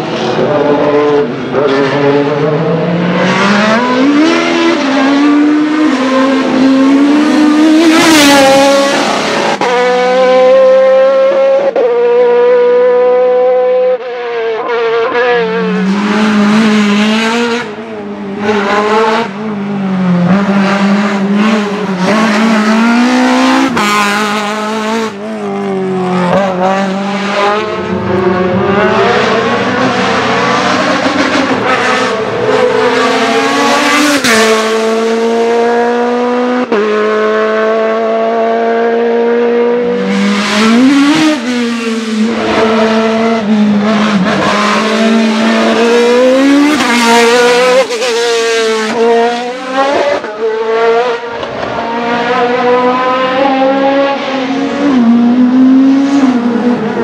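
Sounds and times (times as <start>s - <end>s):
formula car accelerating past: 0.0s - 57.0s
racing car engines at high revs: 0.0s - 57.0s.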